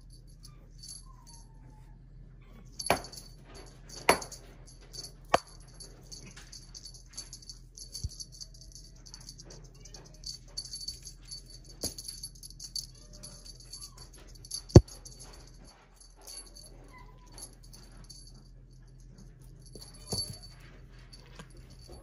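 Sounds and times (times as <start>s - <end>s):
cat toy jingling: 2.8s - 22.0s.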